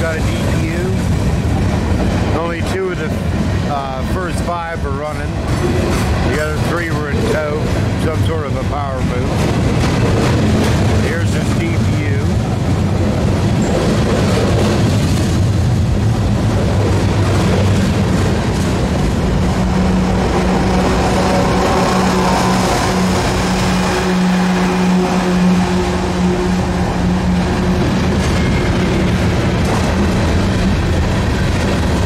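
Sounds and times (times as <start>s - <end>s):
diesel locomotive engine droning: 0.0s - 32.0s.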